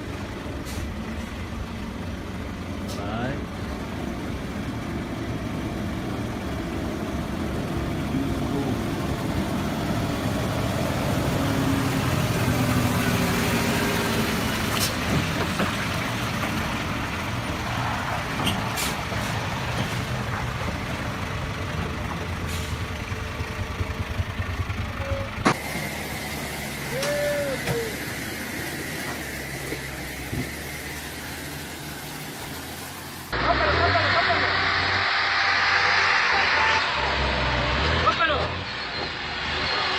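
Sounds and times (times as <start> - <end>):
heavy vehicle engine running: 0.0 - 39.9.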